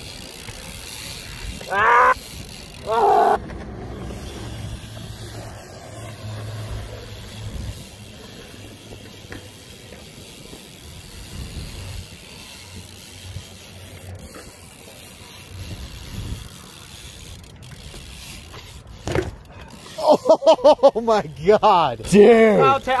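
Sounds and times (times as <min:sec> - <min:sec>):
bike tyres rolling on concrete: 0:00.0 - 0:23.0.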